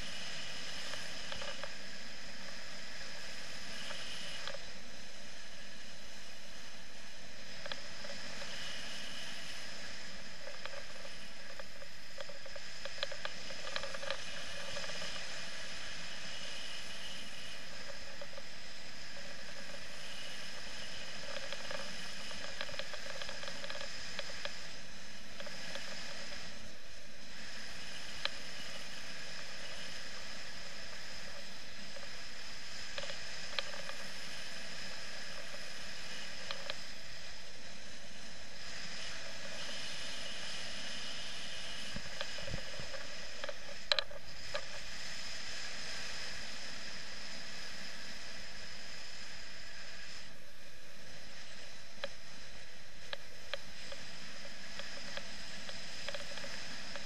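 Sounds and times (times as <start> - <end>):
airflow rushing over camera: 0.0 - 57.0
faint clicks: 0.2 - 2.6, 3.4 - 4.7, 7.6 - 26.7, 27.5 - 45.0, 51.0 - 57.0.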